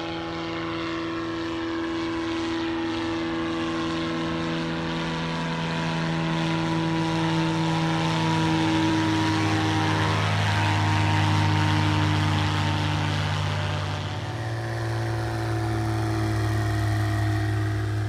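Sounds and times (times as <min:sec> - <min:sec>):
light plane flying past: 0:00.0 - 0:18.0.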